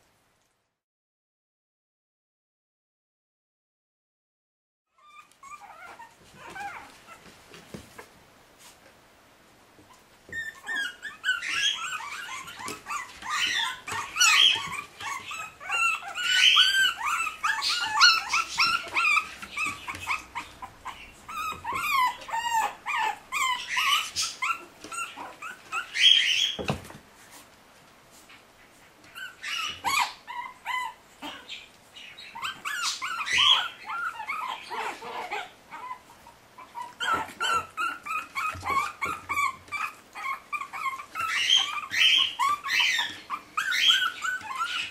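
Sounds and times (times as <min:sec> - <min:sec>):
puppies whining and yipping: 0:04.9 - 0:07.6, 0:09.8 - 0:27.0, 0:28.6 - 0:44.9.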